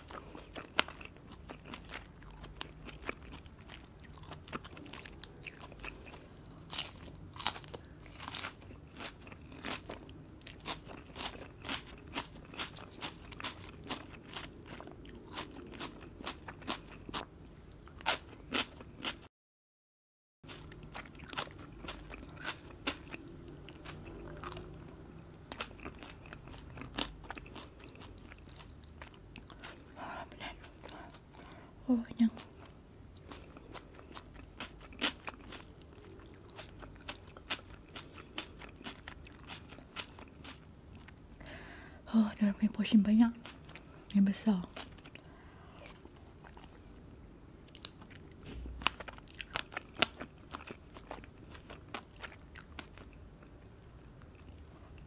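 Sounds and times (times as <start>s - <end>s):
person chewing crisp food: 0.0s - 19.3s, 20.5s - 41.9s, 43.3s - 55.0s.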